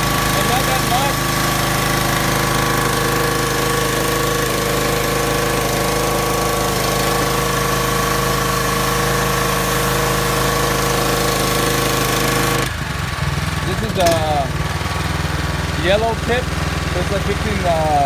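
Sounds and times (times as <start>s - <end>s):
pressure washer engine running: 0.0s - 18.0s
pump spraying water hiss: 0.0s - 18.0s.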